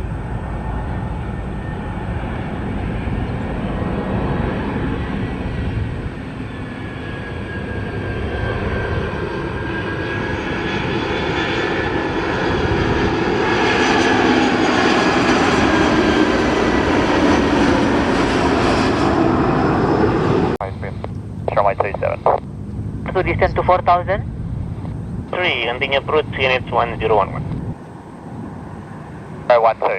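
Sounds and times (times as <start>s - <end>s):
airliner engines whining: 0.0s - 29.9s.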